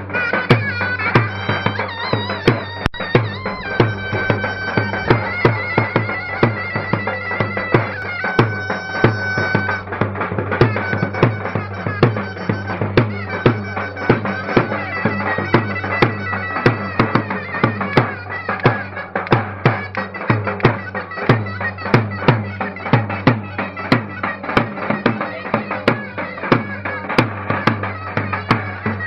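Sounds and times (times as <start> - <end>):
bagpipe playing dance tune: 0.0 - 29.0
percussion beat: 0.0 - 29.0.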